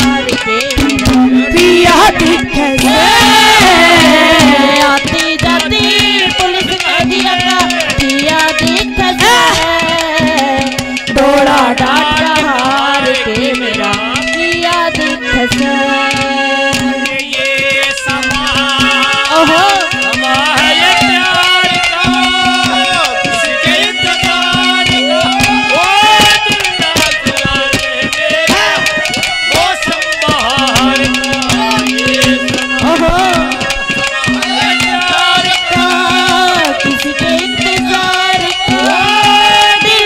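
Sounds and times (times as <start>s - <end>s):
hand drums: 0.0s - 40.0s.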